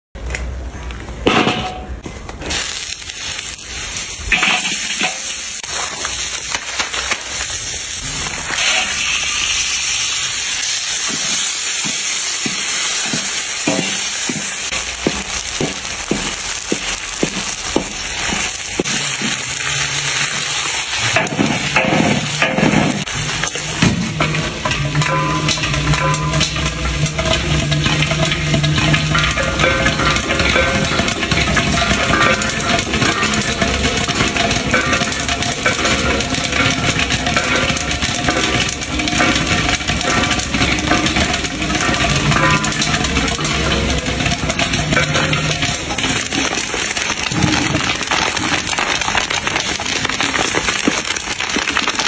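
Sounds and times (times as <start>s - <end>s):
spatula scraping a wok: 2.4s - 47.1s
chicken sizzling in hot oil: 2.4s - 52.0s.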